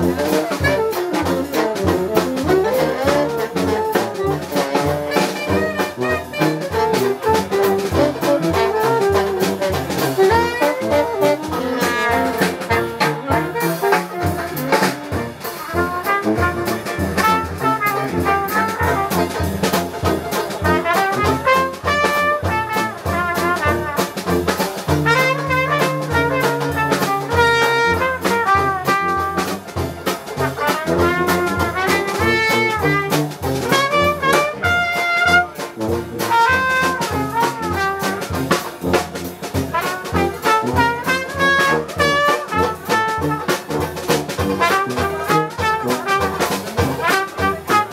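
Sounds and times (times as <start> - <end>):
jazz band playing: 0.0 - 47.9.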